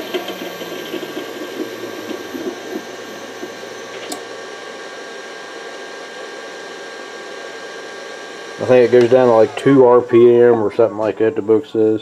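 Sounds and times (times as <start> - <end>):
steady whir: 0.0 - 6.2, 7.0 - 12.0
electric motor hum winding down: 0.0 - 11.6.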